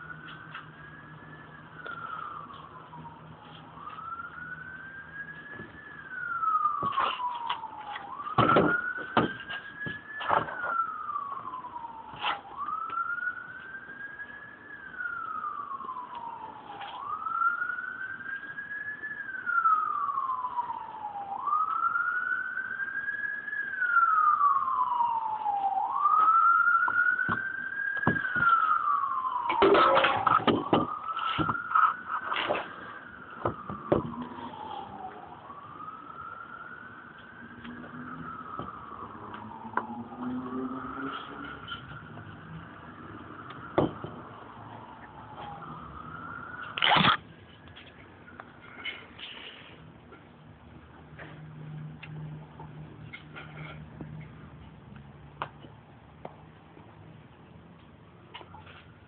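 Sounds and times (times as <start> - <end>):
emergency vehicle siren wailing: 0.0 - 55.6.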